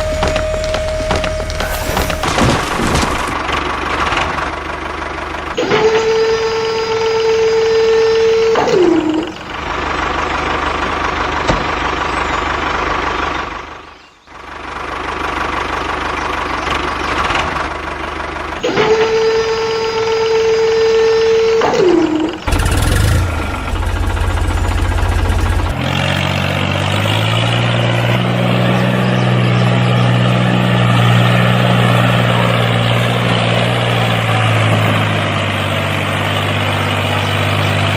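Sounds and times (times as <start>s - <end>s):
low engine hum: 0.0s - 37.9s.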